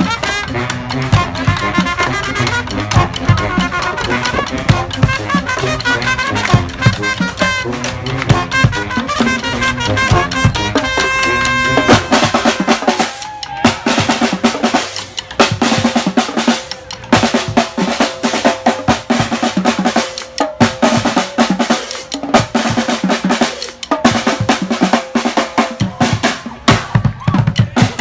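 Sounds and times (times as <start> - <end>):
snare and bass drum groove: 0.0 - 28.0.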